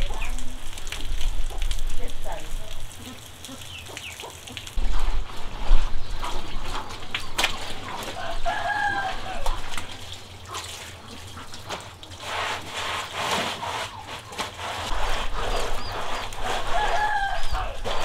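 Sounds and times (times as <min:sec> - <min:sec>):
chickens clucking: 0:00.0 - 0:00.6, 0:01.4 - 0:05.1, 0:05.7 - 0:12.9, 0:13.6 - 0:18.0
hose water splashing on concrete: 0:00.0 - 0:18.0.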